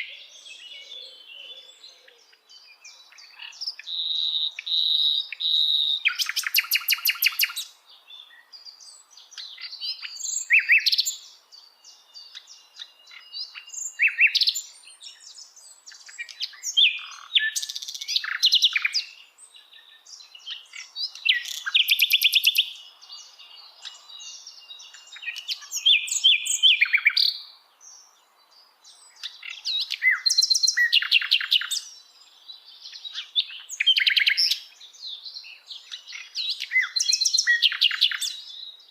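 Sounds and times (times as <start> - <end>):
flycatcher singing: 0.0 - 38.9.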